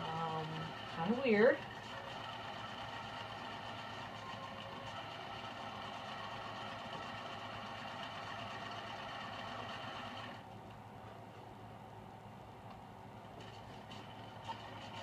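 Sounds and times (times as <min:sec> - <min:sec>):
speakers rough whirring noise: 0:00.0 - 0:15.0.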